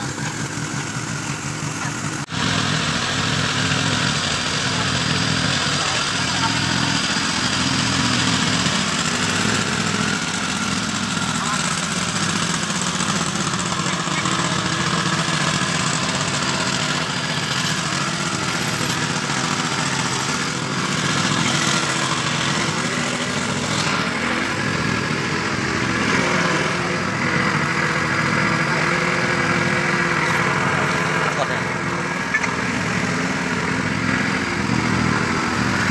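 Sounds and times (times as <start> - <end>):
petrol water pump running: 0.0 - 35.9.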